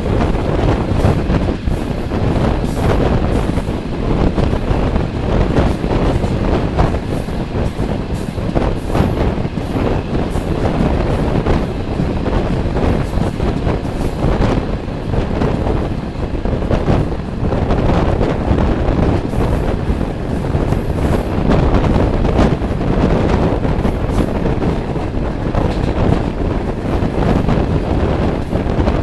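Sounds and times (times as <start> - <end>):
train carriage rumbling on rails: 0.0 - 29.0
wind rushing over the microphone: 0.0 - 29.0.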